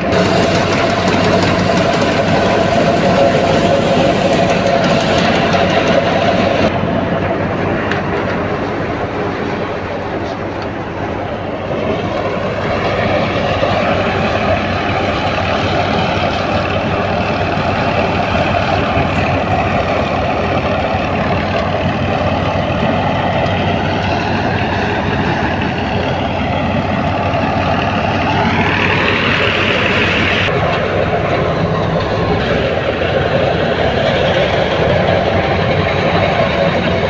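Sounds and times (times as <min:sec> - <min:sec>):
high whine rising in pitch: 0:00.0 - 0:37.0
thresher mechanical drone: 0:00.0 - 0:37.0
threshing drum rushing noise: 0:00.0 - 0:37.0.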